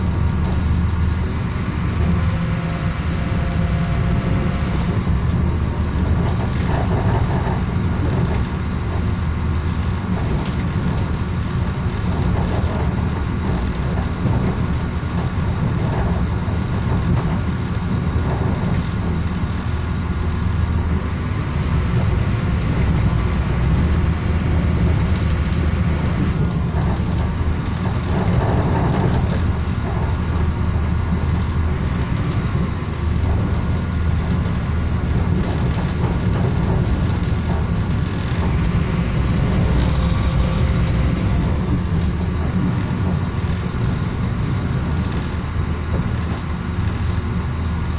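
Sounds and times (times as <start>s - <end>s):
passenger train running rumble: 0.0s - 47.9s.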